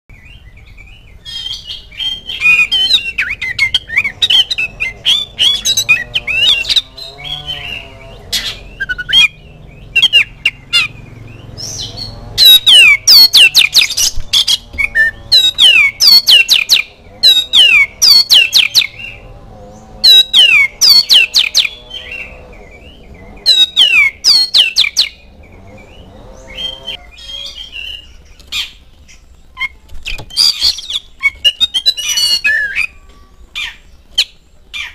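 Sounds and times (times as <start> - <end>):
bird singing whistles and chirps: 0.1 - 34.9.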